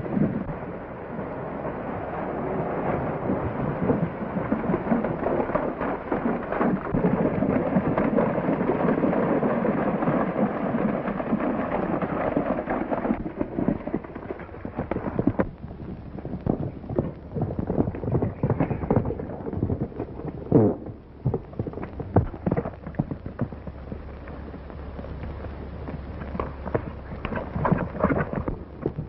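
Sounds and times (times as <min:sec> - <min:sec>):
horses galloping on dirt: 0:00.0 - 0:29.0.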